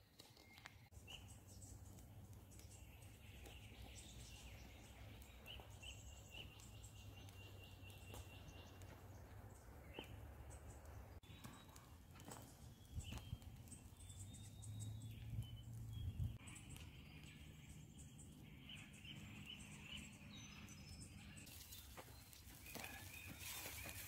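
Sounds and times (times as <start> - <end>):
wood fire crackling: 0.0 - 24.0
distant bird chirps: 0.1 - 24.0.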